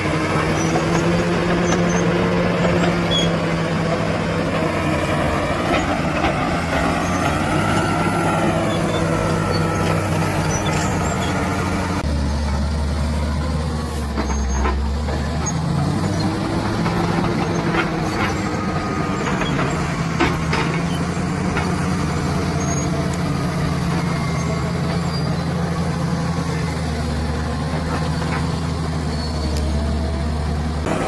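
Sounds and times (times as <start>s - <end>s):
bulldozer diesel engine: 0.0s - 31.0s.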